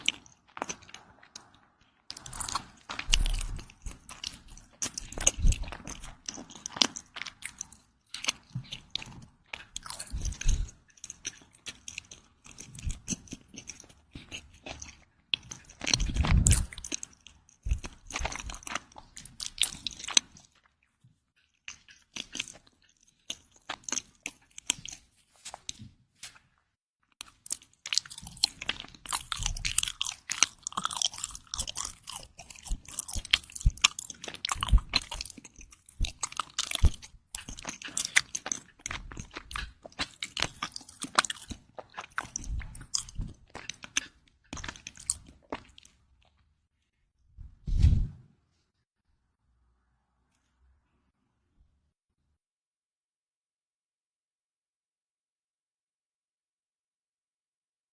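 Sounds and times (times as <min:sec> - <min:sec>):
bread crunching while chewed: 0:00.0 - 0:46.7.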